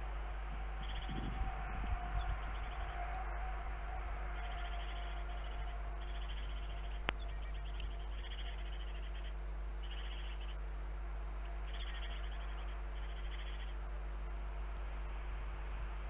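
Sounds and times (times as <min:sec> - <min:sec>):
low electrical hum: 0:00.0 - 0:16.0
small birds trilling: 0:00.0 - 0:16.0.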